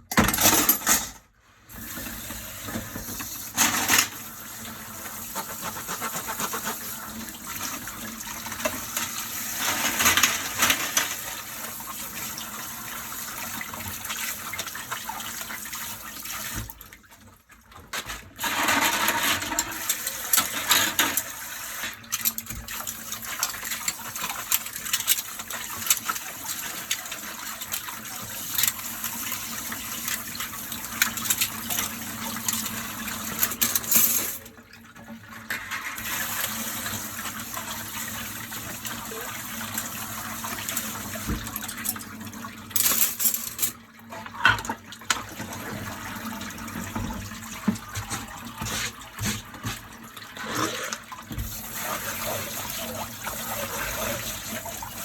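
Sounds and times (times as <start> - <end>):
running tap water: 1.7 - 55.0.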